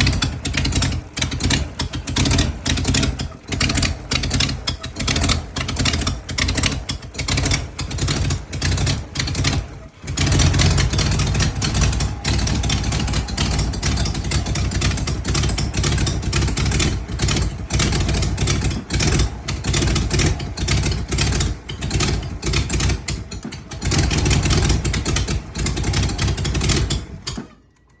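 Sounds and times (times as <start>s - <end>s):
car engine running roughly: 0.0s - 27.8s.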